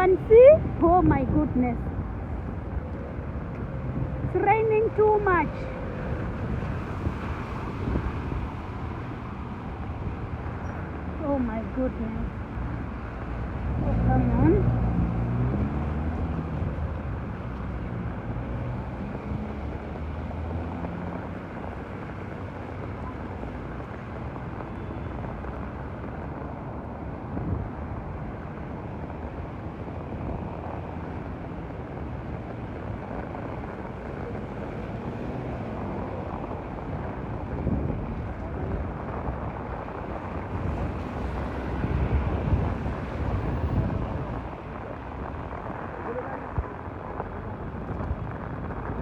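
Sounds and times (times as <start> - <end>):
wind rumble on microphone: 0.0 - 49.0.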